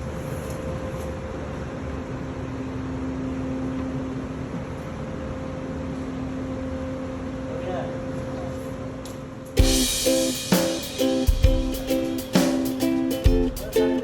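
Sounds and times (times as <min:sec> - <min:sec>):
air conditioner airflow rush: 0:00.0 - 0:14.0.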